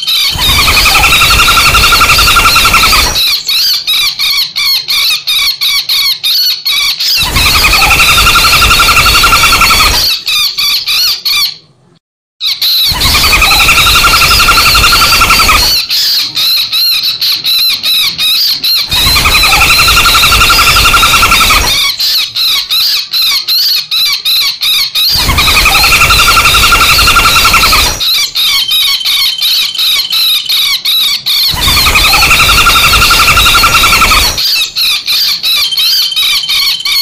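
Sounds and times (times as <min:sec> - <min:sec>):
woodpecker rattling trill: 0:00.0 - 0:11.6, 0:12.5 - 0:37.0
woodpecker sharp repeated calls: 0:00.0 - 0:11.6, 0:12.4 - 0:37.0.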